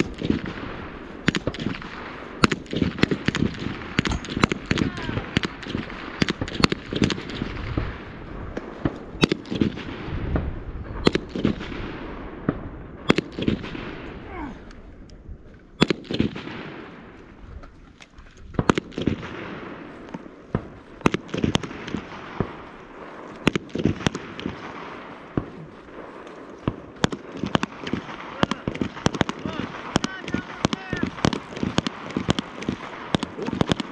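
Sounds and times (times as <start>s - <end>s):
gunshots with short echo: 0.0s - 14.5s, 15.8s - 17.4s, 18.4s - 33.9s.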